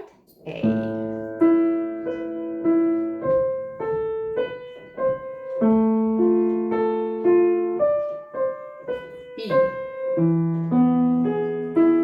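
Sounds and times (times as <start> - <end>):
slow piano broken chords: 0.0 - 12.0.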